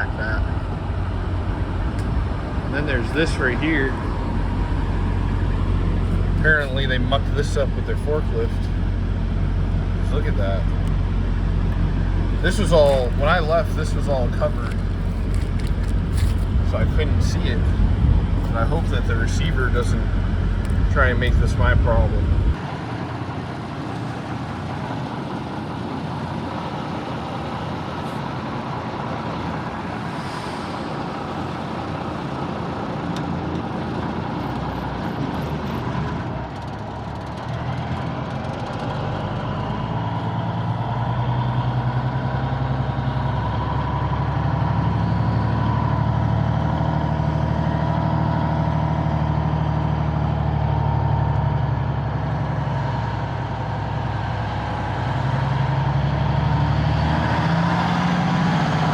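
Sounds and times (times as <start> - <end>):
diesel truck engine running: 0.0 - 58.9
road and traffic noise: 0.0 - 58.9.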